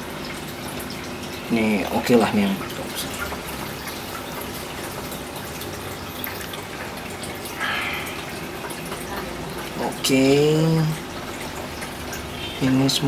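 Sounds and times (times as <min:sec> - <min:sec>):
water trickling in aquarium: 0:00.0 - 0:13.0.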